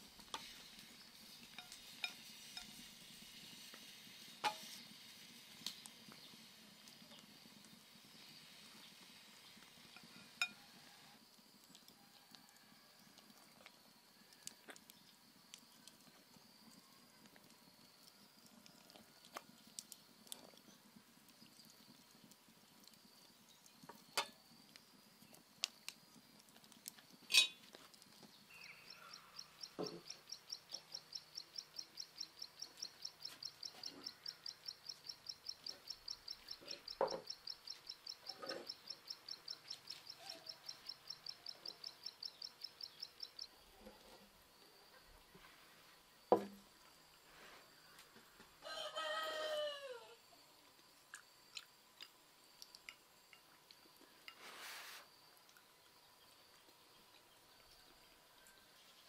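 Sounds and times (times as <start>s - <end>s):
faint high hiss: 0.0s - 13.2s, 19.3s - 59.0s.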